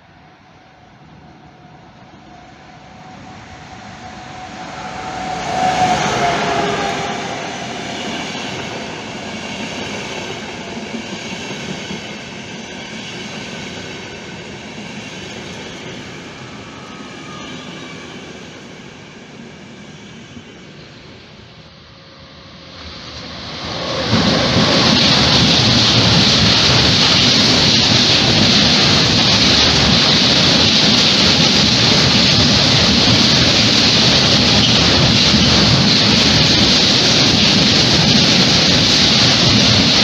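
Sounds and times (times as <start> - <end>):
electric locomotive whine: 0.0 - 40.0
train coaches rumbling: 0.0 - 40.0.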